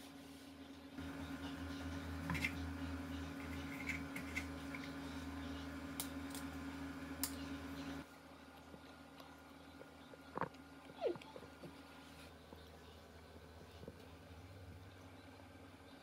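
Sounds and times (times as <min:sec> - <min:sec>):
steady low hum: 0:00.2 - 0:16.0.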